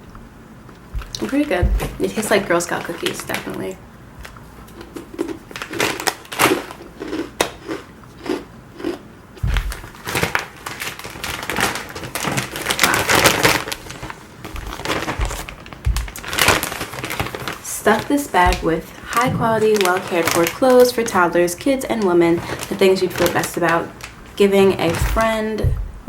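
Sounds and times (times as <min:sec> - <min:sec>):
snack packaging crinkling: 0:04.2 - 0:25.6.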